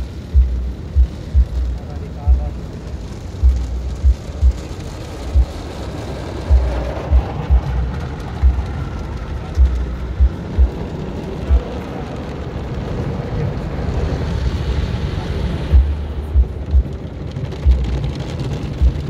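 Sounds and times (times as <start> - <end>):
car wash water spraying on roof: 0.0 - 19.0.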